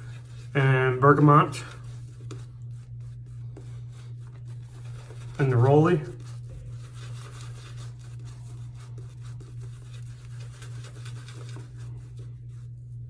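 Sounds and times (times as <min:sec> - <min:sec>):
shaving brush scratchy strokes: 0:00.0 - 0:13.0.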